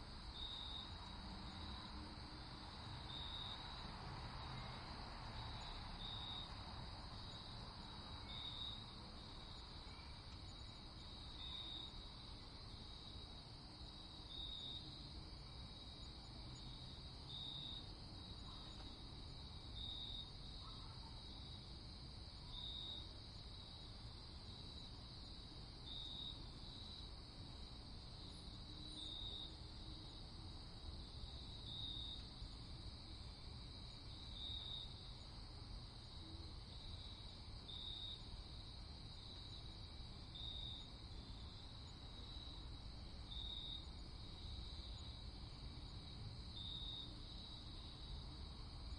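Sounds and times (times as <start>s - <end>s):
crickets chirping: 0.0s - 48.9s
faint low background hiss: 0.0s - 48.9s.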